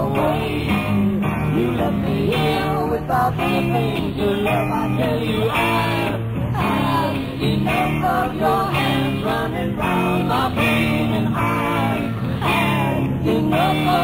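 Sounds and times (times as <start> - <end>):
electric guitars and bass: 0.0 - 14.0
person singing: 0.0 - 14.0.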